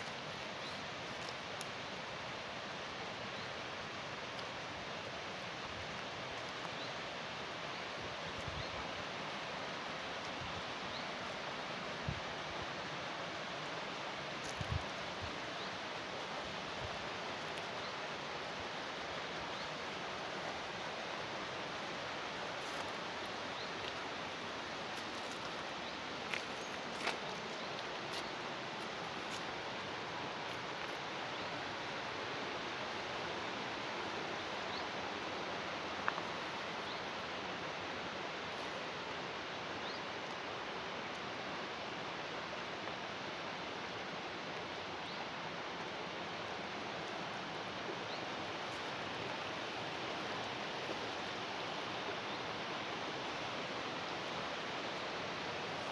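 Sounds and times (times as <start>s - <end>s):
water flowing along canal: 0.0s - 55.9s.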